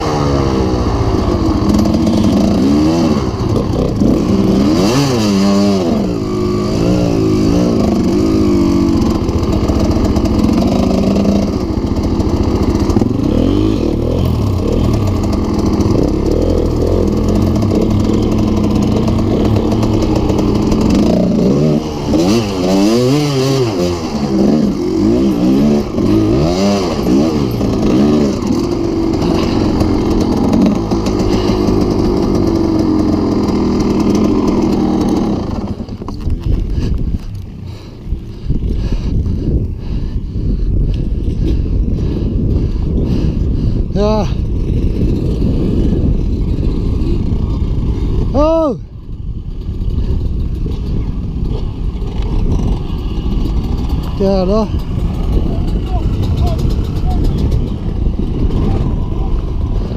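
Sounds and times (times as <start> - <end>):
dirt bike engine revving: 0.0 - 40.1, 41.0 - 59.9.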